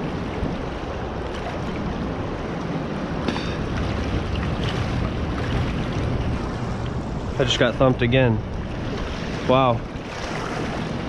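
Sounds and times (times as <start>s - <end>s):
river water rushing: 0.0s - 11.0s
wind: 0.0s - 11.0s.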